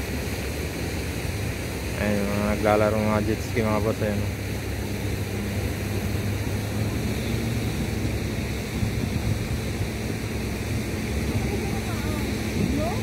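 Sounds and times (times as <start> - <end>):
low steady hum: 0.0 - 13.0
water: 0.0 - 13.0
wind: 0.0 - 13.0.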